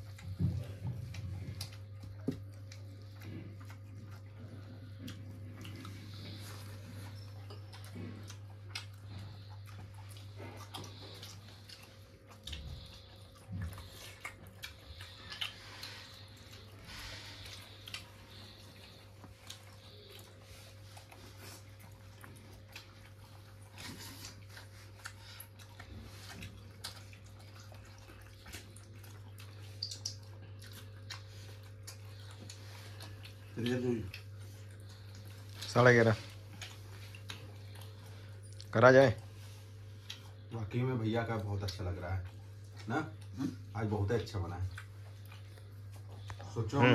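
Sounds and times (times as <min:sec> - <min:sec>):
people chewing: 0:00.0 - 0:46.9.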